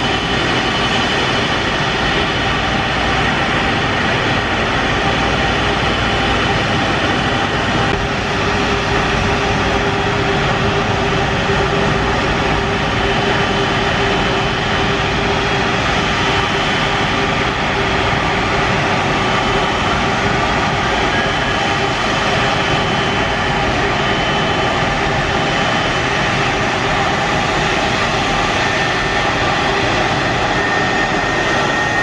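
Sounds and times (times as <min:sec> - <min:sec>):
jet engines rushing and whining: 0:00.0 - 0:32.0.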